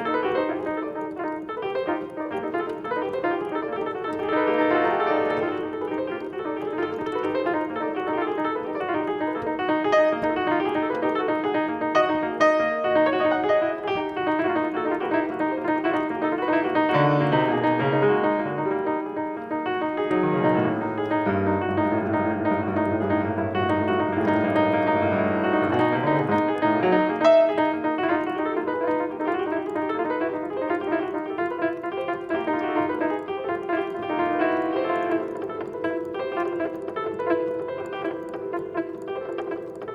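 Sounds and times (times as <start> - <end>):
piano playing: 0.0 - 39.9.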